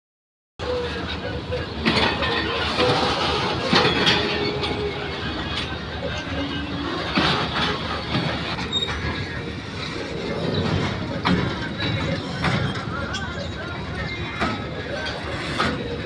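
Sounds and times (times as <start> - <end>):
train wheels rumbling: 0.6 - 16.0
wheels clacking over rail joints: 0.6 - 16.0.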